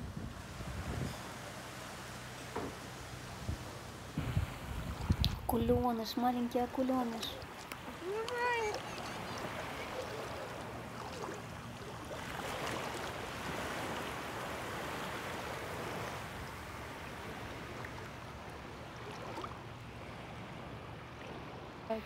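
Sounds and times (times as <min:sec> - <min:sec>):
gentle waves lapping: 0:00.0 - 0:22.0.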